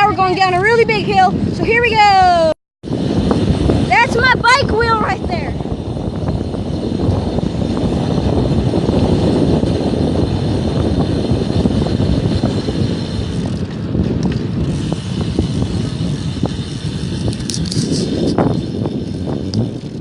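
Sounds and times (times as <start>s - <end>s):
bicycle tyres rushing on road: 0.0s - 20.0s
wind buffeting microphone: 0.0s - 20.0s.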